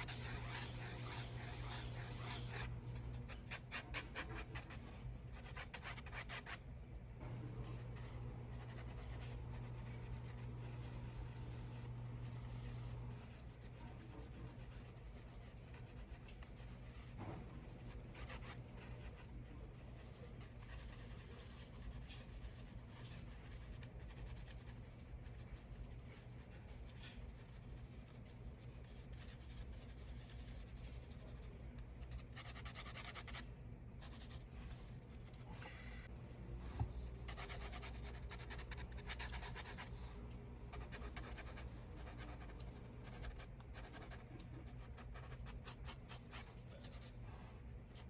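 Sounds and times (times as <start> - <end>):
pencil scratching on paper: 0.0 - 6.6, 7.6 - 34.5, 37.2 - 40.1, 40.7 - 47.2
low steady hum: 0.0 - 48.0.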